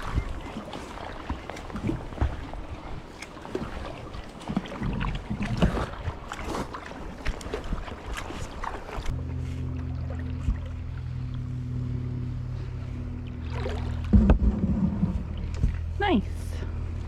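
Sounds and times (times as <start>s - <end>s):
kayak paddles splashing: 0.0s - 16.4s.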